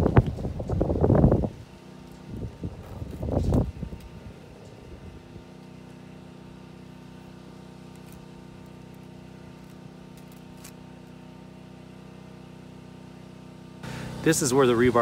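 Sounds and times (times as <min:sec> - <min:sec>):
portable generator engine running: 0:00.0 - 0:15.0.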